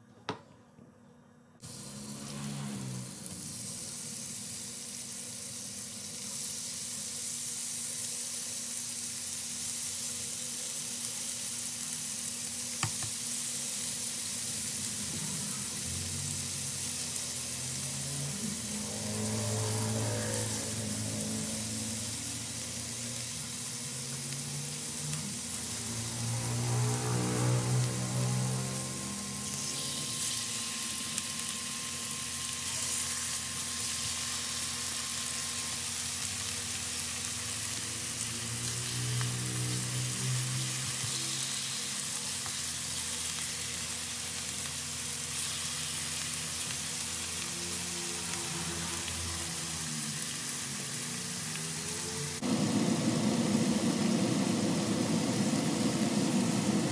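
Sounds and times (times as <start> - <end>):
meat sizzling in oil: 1.6 - 56.9.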